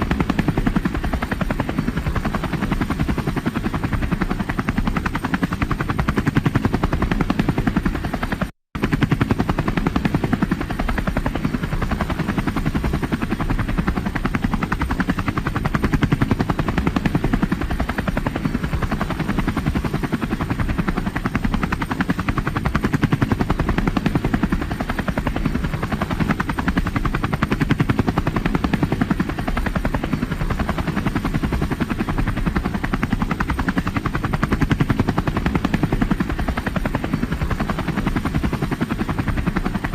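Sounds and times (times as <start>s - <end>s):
helicopter engine drone: 0.0s - 39.9s
helicopter rotor chop: 0.0s - 39.9s.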